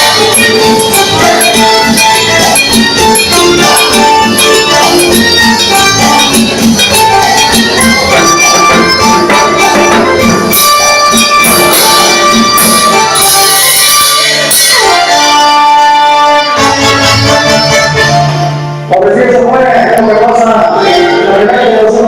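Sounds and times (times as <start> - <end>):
electronic keyboard music: 0.0 - 22.0.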